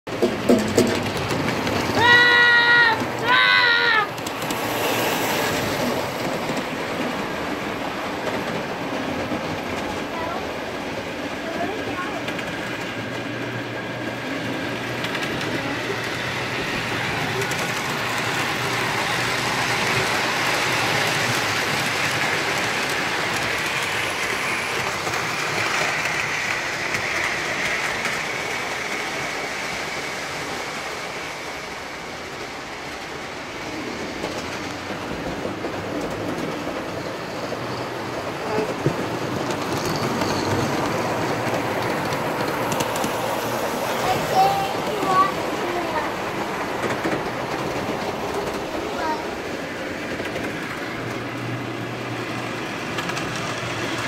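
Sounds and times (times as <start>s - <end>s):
model train wheels clattering: 0.1s - 2.1s, 2.8s - 10.6s, 11.3s - 30.5s, 33.9s - 54.0s.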